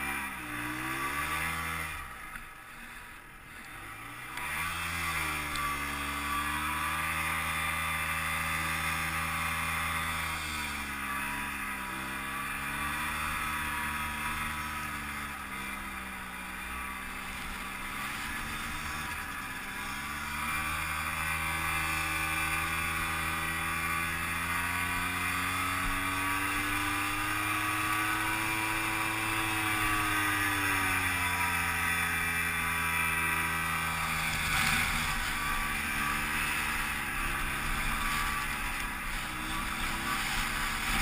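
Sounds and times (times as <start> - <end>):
snowmobile engine running: 0.0 - 41.0.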